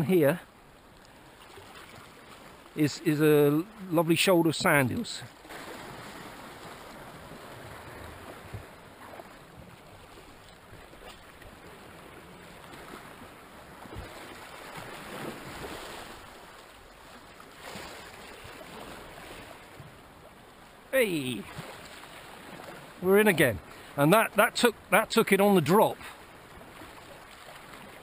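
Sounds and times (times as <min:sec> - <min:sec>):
sea waves lapping against rocks: 0:01.0 - 0:02.8, 0:04.4 - 0:28.0.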